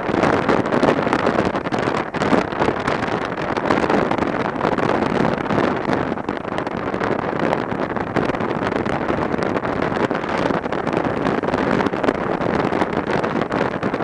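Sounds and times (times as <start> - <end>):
wind over microphone: 0.0 - 14.0.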